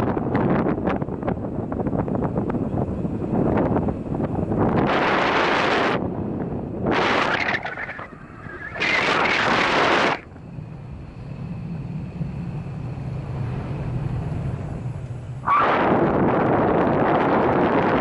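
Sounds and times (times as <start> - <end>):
low steady hum: 0.0 - 18.0
wind buffeting microphone: 0.0 - 18.0.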